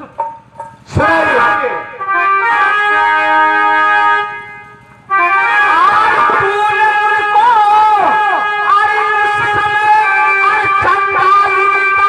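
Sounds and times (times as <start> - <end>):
stage band instrumental music: 0.0 - 12.0.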